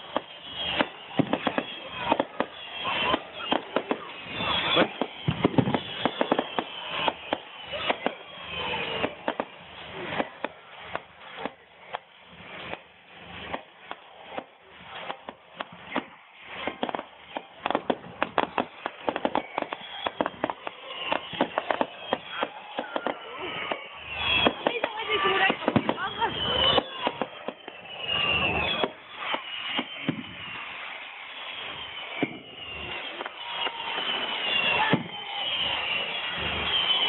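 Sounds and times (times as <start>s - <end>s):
fireworks popping and banging: 0.0s - 37.0s
whistling fireworks: 0.0s - 37.0s.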